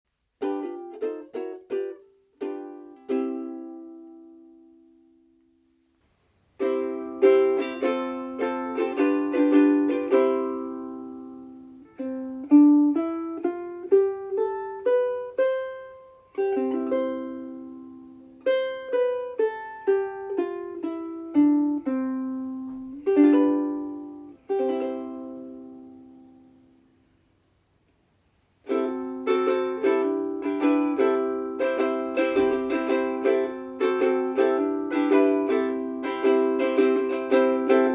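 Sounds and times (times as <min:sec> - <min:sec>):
ukulele strumming and picking: 0:00.1 - 0:05.9, 0:06.5 - 0:26.9, 0:28.6 - 0:37.9.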